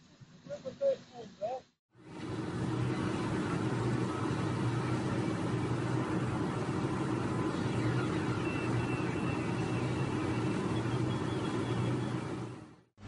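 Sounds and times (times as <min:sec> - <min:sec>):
car engine hum from inside: 0:02.0 - 0:12.7.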